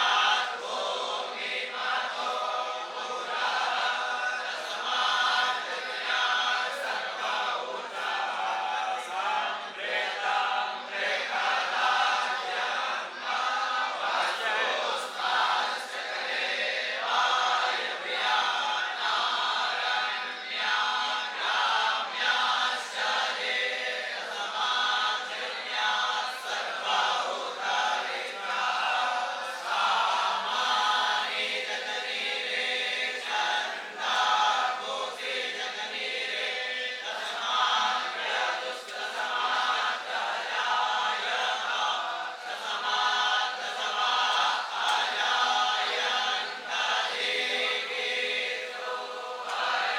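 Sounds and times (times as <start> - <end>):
young students chanting in unison: 0.0 - 49.9.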